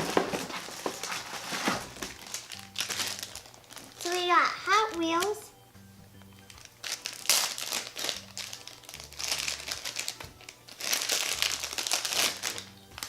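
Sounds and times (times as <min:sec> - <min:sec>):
plastic packaging crinkling: 0:00.0 - 0:05.4, 0:06.2 - 0:13.0
soft background music: 0:00.0 - 0:13.0.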